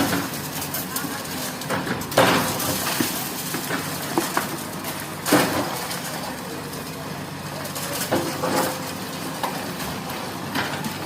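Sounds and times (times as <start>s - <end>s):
excavator engine running: 0.0s - 11.0s
roof material cracking and clinking: 0.0s - 11.0s.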